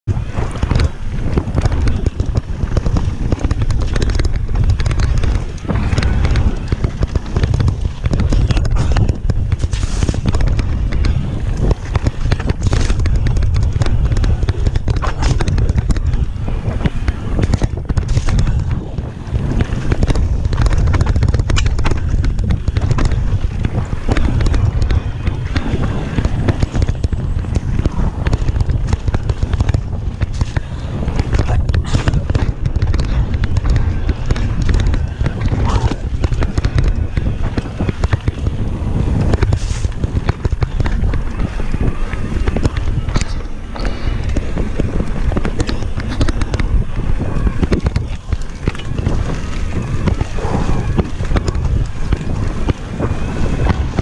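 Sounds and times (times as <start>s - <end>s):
bike rattles and knocks: 0.0s - 54.0s
wind buffeting microphone: 0.0s - 54.0s
tyres on loose gravel: 0.1s - 54.0s.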